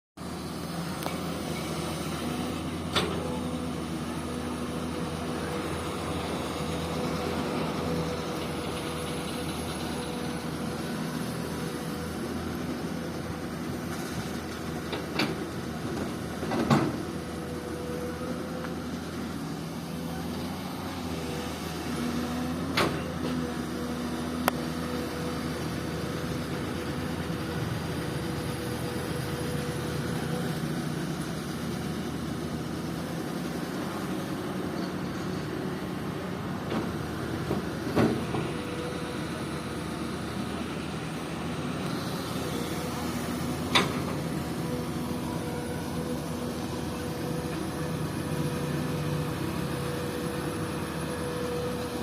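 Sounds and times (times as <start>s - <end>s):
diesel excavator engine running: 0.2s - 52.0s.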